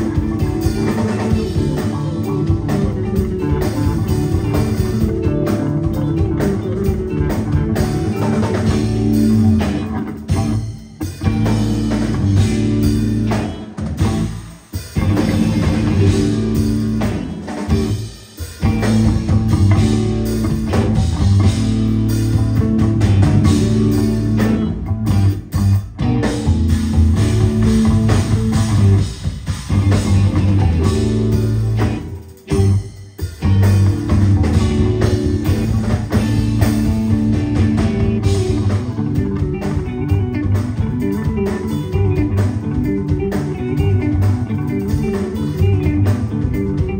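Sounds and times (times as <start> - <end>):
live rock band playing: 0.0 - 46.9
melodic bass line: 0.0 - 46.9.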